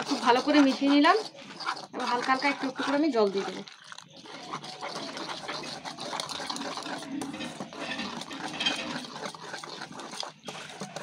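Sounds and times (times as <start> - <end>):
wet batter being mixed: 0.0 - 11.0.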